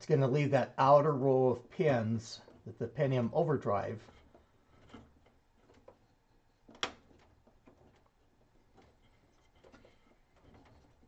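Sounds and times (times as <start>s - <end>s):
faint handling noise: 0.0s - 11.0s.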